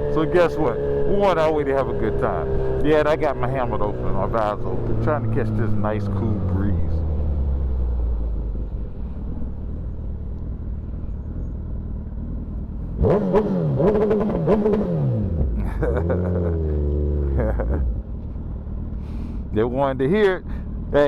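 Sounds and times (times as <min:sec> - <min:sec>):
engine crackles: 0:00.0 - 0:21.0
motorcycle engine revving: 0:00.0 - 0:21.0.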